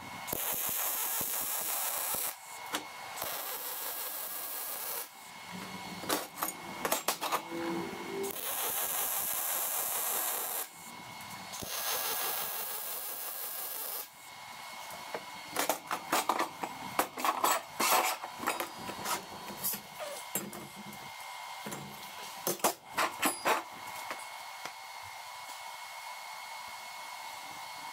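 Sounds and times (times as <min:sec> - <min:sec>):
welding arc hiss: 0:00.0 - 0:07.4, 0:08.2 - 0:25.1.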